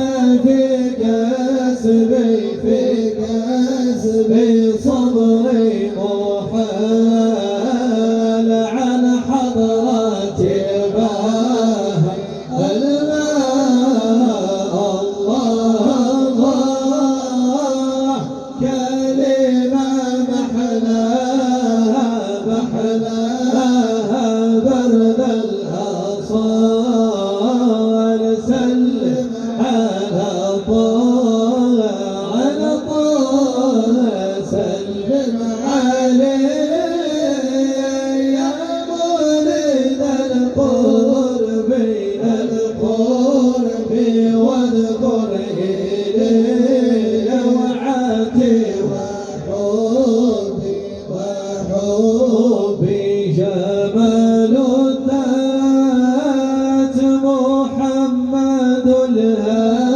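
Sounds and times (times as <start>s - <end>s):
voices singing devotional song: 0.0s - 59.9s.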